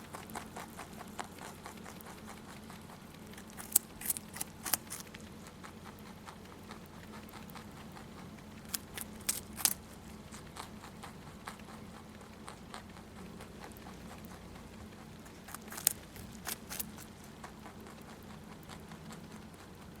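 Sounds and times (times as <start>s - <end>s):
rabbit chewing carrot: 0.0s - 20.0s.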